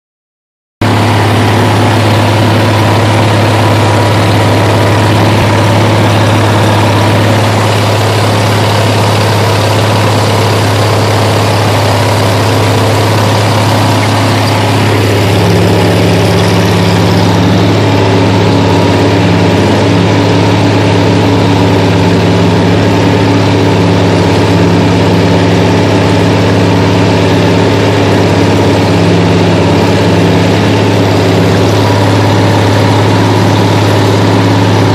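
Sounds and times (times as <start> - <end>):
tractor engine running under load: 0.8 - 34.9.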